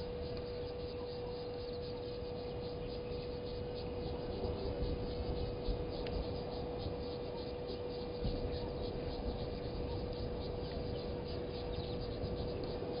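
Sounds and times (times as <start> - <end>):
high insect chirps: 0.0 - 13.0
steady mid-pitched hum: 0.0 - 13.0.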